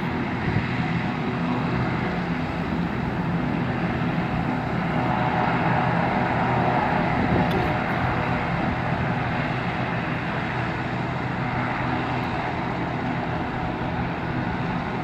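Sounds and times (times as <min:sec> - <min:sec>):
helicopter turbine and rotor drone: 0:00.0 - 0:15.0.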